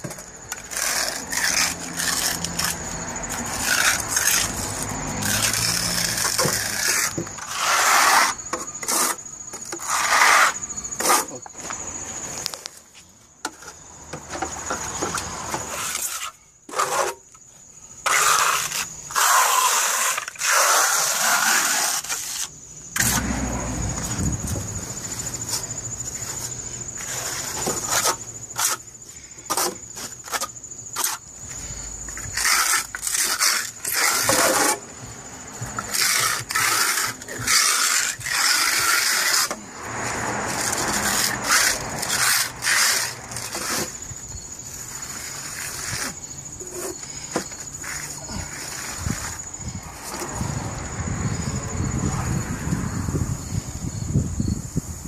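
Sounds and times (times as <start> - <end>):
trowel scraping cement: 0.0 - 12.8, 13.5 - 17.4, 18.0 - 23.3, 25.2 - 31.2, 32.1 - 34.9, 35.6 - 50.3.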